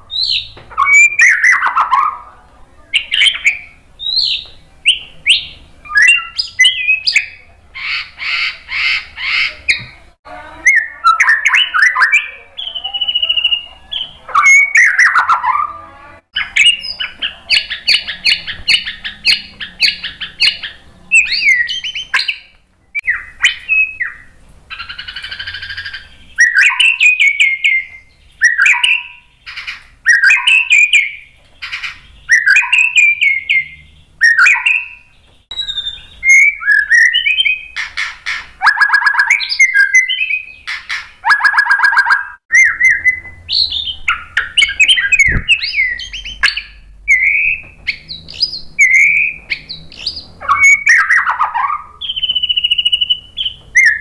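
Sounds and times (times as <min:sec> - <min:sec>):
bird singing whistled notes and trills: 0:00.0 - 0:10.0, 0:10.6 - 0:54.0.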